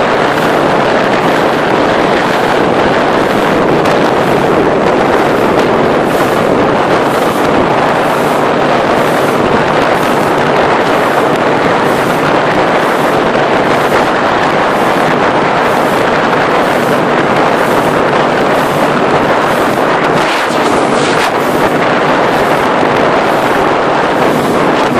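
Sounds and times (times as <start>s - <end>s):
motorboat motor running: 0.0s - 24.9s
water noise: 0.0s - 24.9s
wind on microphone: 0.0s - 24.9s.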